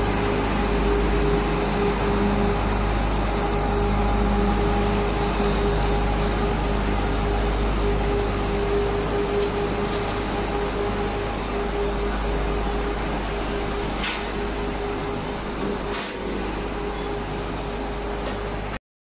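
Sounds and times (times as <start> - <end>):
electric motors and fans humming: 0.0 - 18.8.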